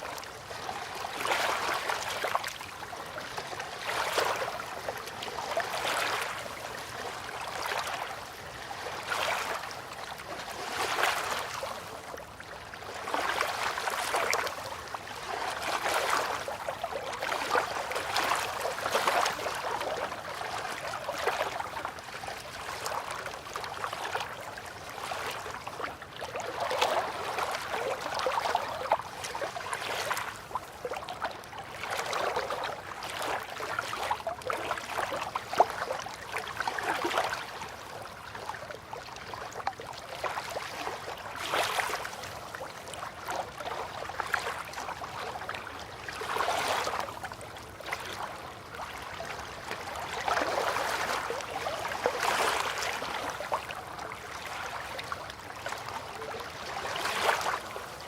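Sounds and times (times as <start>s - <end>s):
river water lapping: 0.0s - 58.0s.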